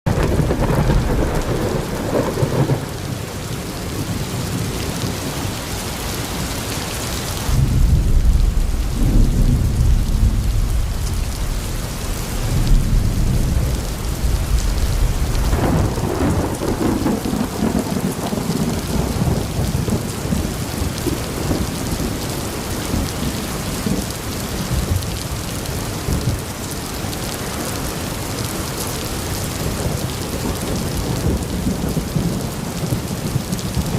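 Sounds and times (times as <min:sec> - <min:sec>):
thunder rumbling: 0:00.1 - 0:05.4, 0:07.1 - 0:26.5, 0:27.6 - 0:33.9
wind: 0:00.1 - 0:33.9
heavy rain hiss: 0:00.2 - 0:33.9.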